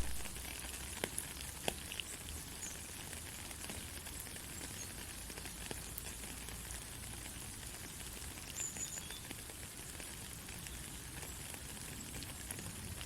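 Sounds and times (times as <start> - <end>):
soft rain falling: 0.0 - 13.0.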